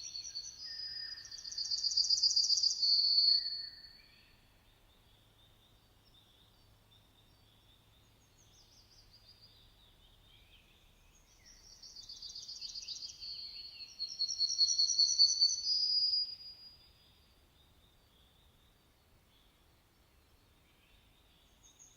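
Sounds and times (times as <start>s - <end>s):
songbirds singing: 0.0s - 21.9s.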